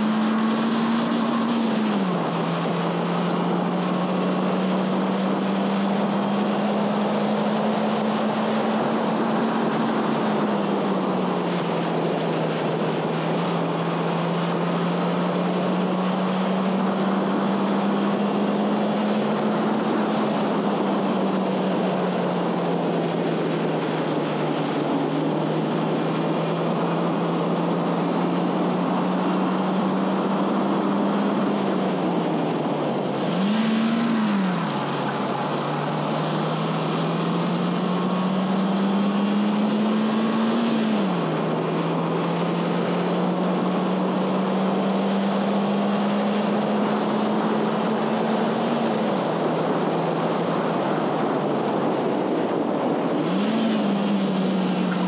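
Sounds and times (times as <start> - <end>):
car engine revving: 0.0 - 55.0
road noise: 0.0 - 55.0
wind noise: 0.0 - 55.0.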